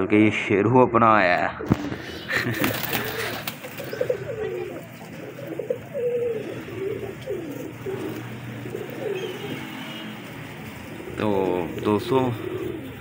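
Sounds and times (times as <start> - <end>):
pigeons cooing: 1.6 - 13.0.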